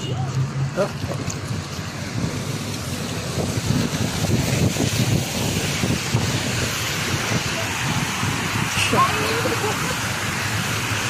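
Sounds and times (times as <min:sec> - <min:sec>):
street traffic: 0:00.0 - 0:11.0
wind buffeting microphone: 0:00.4 - 0:11.0.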